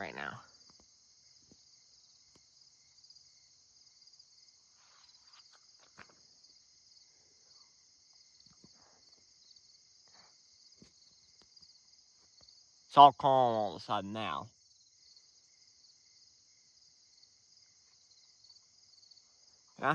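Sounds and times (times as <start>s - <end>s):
night insects chirping: 0.0s - 19.9s.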